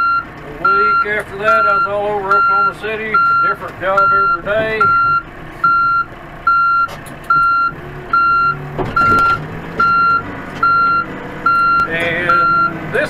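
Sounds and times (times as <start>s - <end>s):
reverse alarm beeping: 0.0s - 12.8s
diesel engine running: 0.0s - 13.0s.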